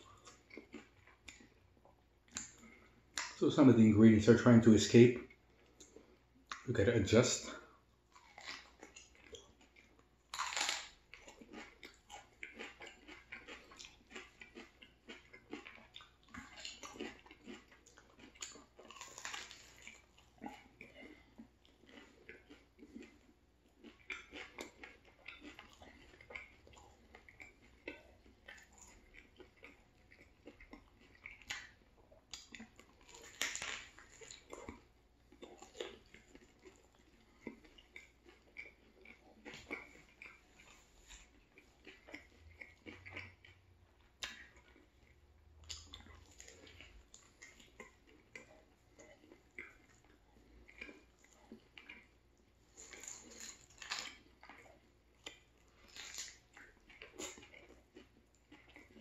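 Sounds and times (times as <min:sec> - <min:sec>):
chewing with small clicks: 0:00.0 - 0:59.0
biting into sandwich: 0:08.1 - 0:59.0.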